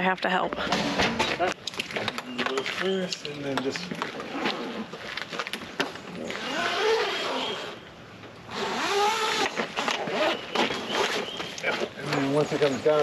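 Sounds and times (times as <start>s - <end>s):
awning rushing and squeaking: 0.6s - 5.0s, 6.0s - 7.9s, 8.5s - 13.0s.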